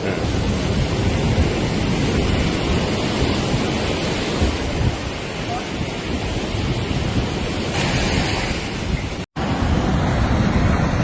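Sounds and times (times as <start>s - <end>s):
heavy surf: 0.0s - 11.0s
wind buffeting microphone: 0.0s - 11.0s.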